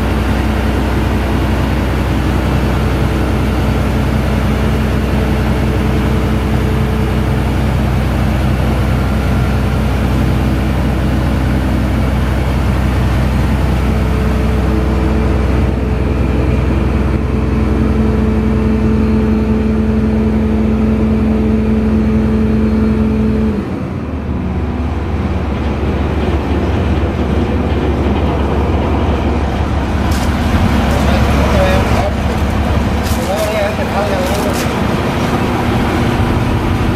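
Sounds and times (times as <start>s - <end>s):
diesel engine drone: 0.0s - 36.9s
machinery whine: 0.0s - 36.9s.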